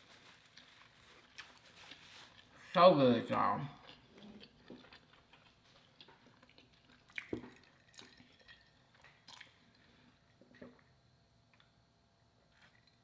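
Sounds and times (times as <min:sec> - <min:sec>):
wet chewing and mouth sounds: 0:00.2 - 0:10.9.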